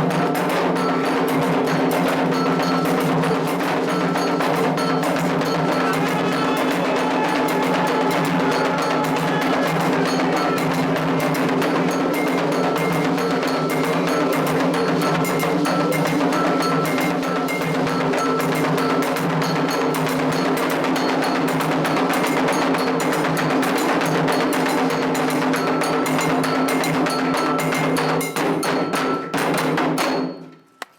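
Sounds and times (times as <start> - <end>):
hand drums playing fast rhythm: 0.0 - 30.2
struck metal bell: 0.1 - 30.6.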